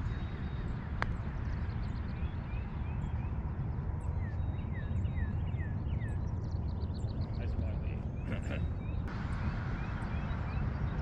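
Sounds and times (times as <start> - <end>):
bird chirping: 0.0 - 11.0
wind rumble on microphone: 0.0 - 11.0.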